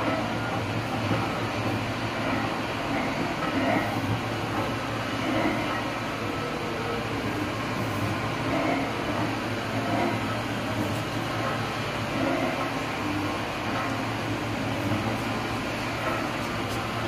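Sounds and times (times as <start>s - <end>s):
dough kneading machine motor hum: 0.0s - 17.0s.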